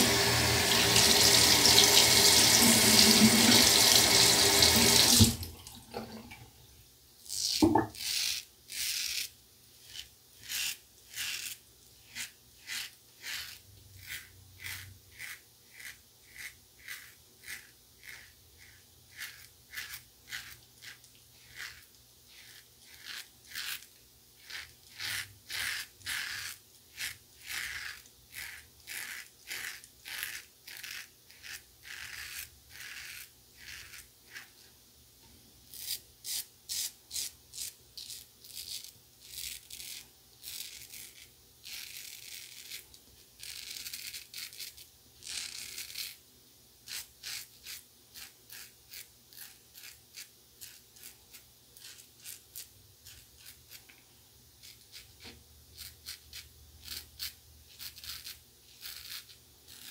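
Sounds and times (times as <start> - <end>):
razor rasping on stubble: 0.0 - 5.2, 7.3 - 34.6, 35.7 - 42.8, 43.4 - 46.2, 46.8 - 53.8, 54.6 - 59.9.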